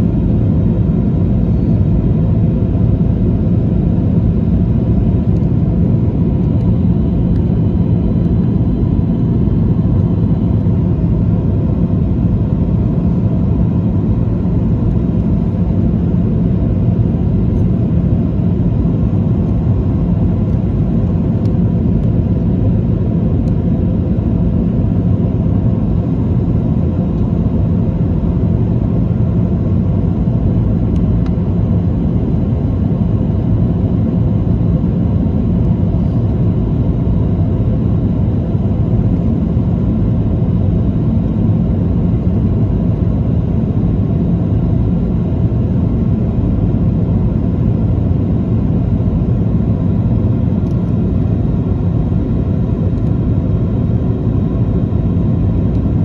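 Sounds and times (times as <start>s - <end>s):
airplane cabin engine roar: 0.0s - 56.0s
faint steady hums: 0.0s - 56.0s.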